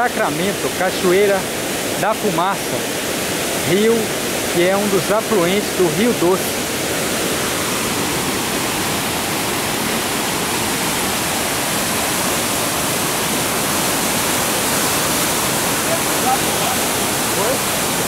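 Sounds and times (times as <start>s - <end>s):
river rushing over rapids: 0.0s - 18.0s.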